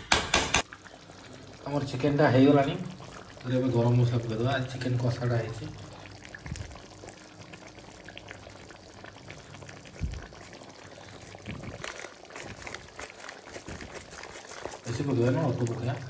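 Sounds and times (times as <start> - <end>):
curry bubbling in a pan: 0.5 - 16.0.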